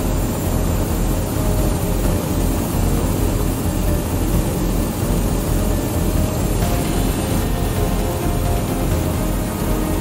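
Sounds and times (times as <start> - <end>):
helicopter engine and rotor: 0.0 - 10.0.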